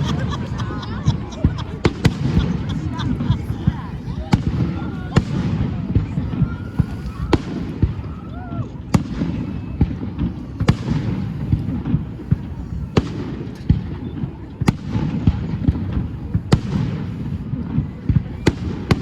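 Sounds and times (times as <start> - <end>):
fireworks bangs: 0.0 - 19.0
small fireworks pops: 0.0 - 19.0.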